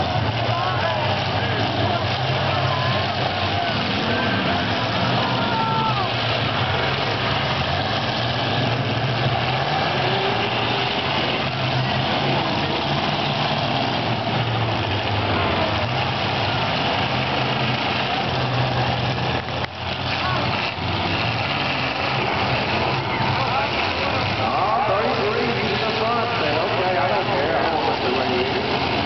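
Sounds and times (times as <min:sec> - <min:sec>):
car engines droning: 0:00.0 - 0:29.0.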